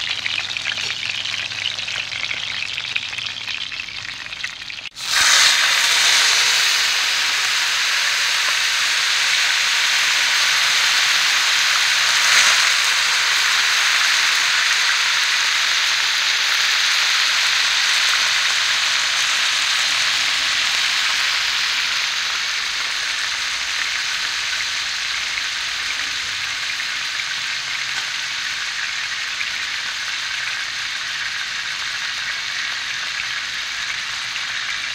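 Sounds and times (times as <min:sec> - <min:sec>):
fish sizzling in hot oil: 0:00.0 - 0:34.9.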